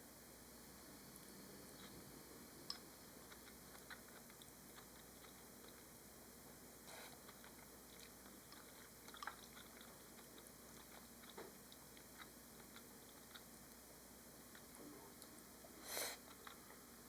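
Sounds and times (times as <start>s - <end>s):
low steady hum: 0.0s - 17.0s
person chewing food: 2.7s - 16.9s.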